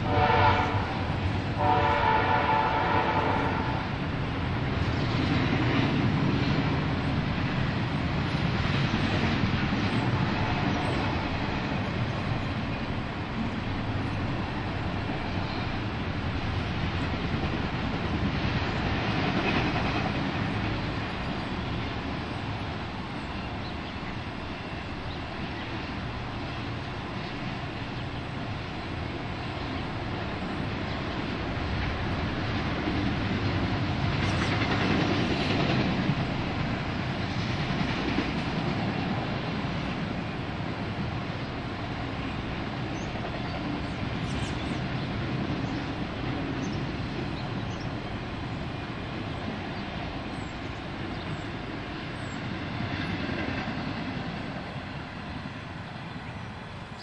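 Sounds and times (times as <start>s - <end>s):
freight train wheels rumbling on track: 0.0s - 57.0s.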